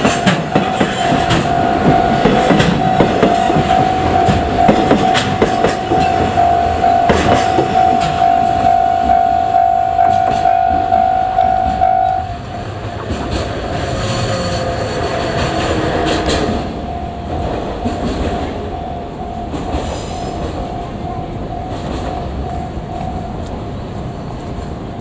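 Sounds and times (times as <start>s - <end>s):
train wheels clattering over rails: 0.0s - 9.3s, 10.0s - 25.0s
crossing warning bell ringing: 0.0s - 13.3s, 14.3s - 25.0s.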